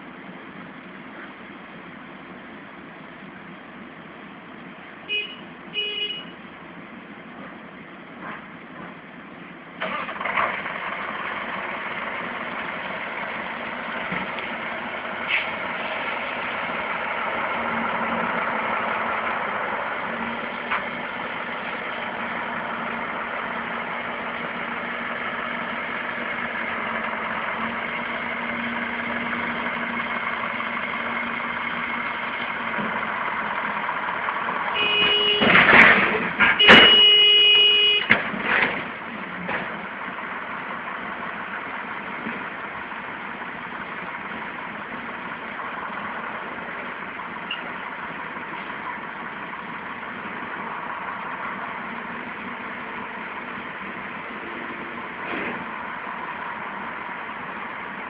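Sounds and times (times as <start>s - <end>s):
vehicle engine running: 9.8s - 58.0s.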